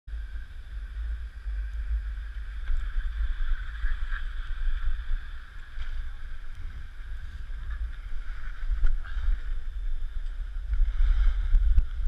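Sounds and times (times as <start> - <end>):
steady hiss: 0.1 - 12.0
wind buffeting microphone: 0.1 - 12.0.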